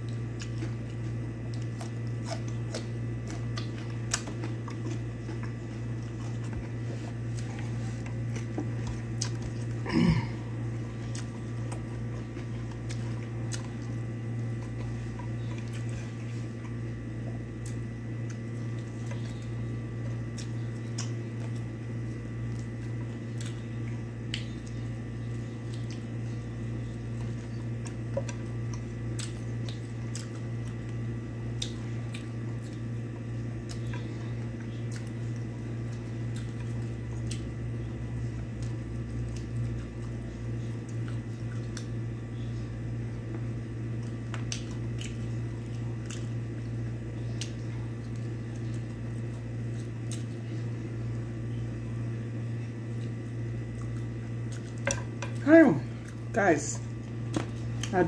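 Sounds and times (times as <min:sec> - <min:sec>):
chewing and smacking: 0:00.0 - 0:58.0
steady low hum: 0:00.0 - 0:58.0.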